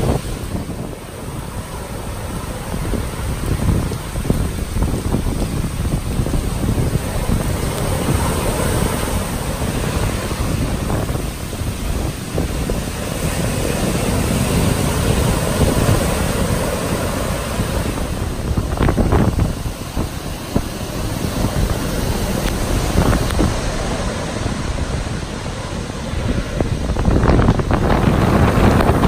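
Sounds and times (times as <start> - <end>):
rushing wind and surf: 0.0 - 29.0
wind buffeting microphone: 0.0 - 29.0.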